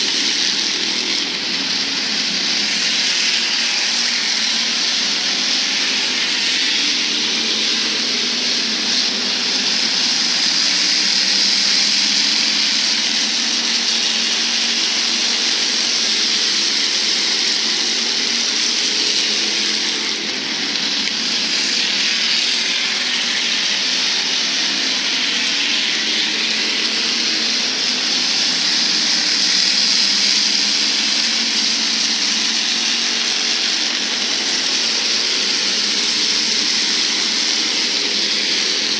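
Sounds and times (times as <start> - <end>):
race car engines roaring: 0.0 - 38.9.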